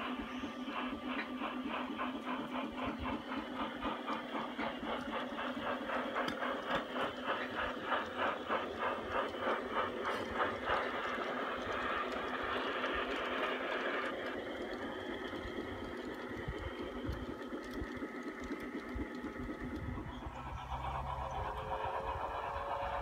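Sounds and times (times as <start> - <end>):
model steam locomotive chuffing: 0.0 - 23.0
steady low hum: 0.0 - 23.0.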